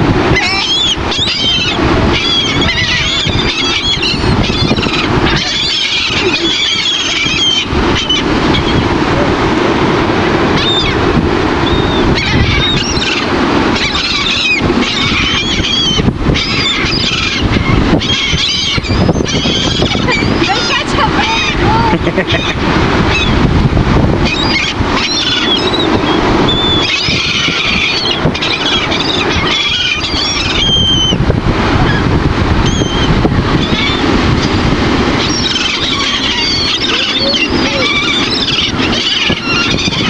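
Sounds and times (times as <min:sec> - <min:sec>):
wind and surf rushing: 0:00.0 - 0:40.0
seagulls calling: 0:00.2 - 0:09.1, 0:10.4 - 0:40.0.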